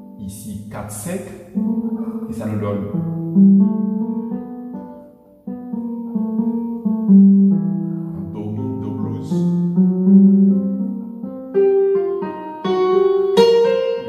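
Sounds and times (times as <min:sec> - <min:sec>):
keyboard playing single notes: 0:00.0 - 0:14.0.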